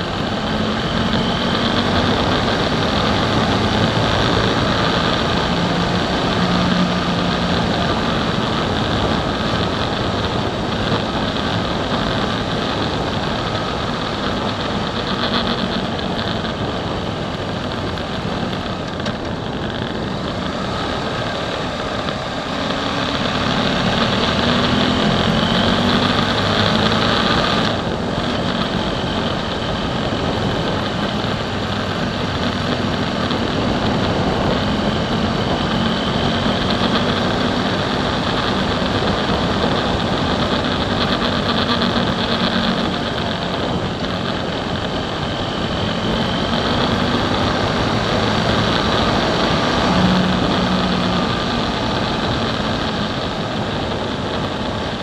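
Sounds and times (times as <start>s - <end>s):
motorcycle engine accelerating: 0.0s - 55.0s
wind rushing over camera: 0.0s - 55.0s.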